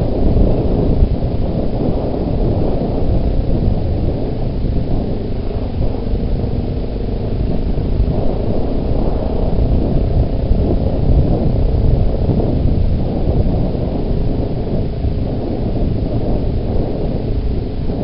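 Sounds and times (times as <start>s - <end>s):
atv engine: 0.0s - 18.0s
wind buffeting microphone: 0.0s - 18.0s.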